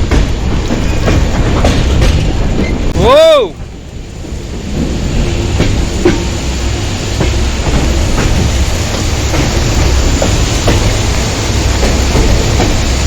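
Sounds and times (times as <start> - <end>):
train rumble: 0.0 - 13.0
wheels clicking over rail joints: 0.0 - 13.0.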